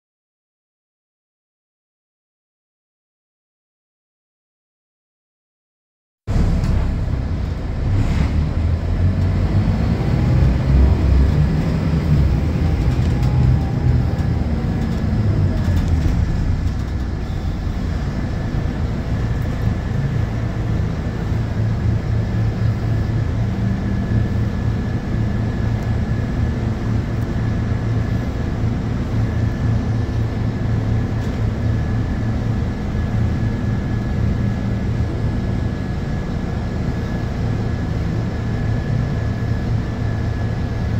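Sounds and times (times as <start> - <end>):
bus diesel engine idling: 6.3 - 40.9.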